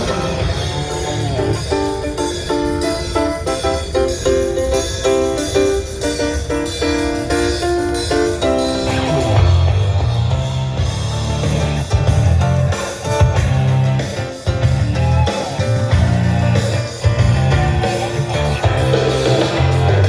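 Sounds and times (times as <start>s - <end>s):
rock music with guitar: 0.0s - 20.0s.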